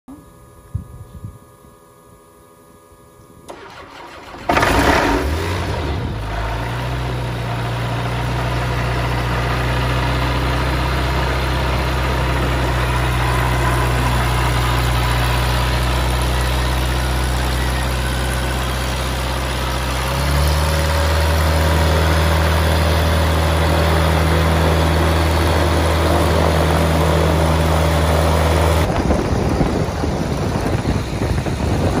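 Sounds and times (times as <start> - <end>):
aircraft engine and propeller idling: 3.4 - 32.0.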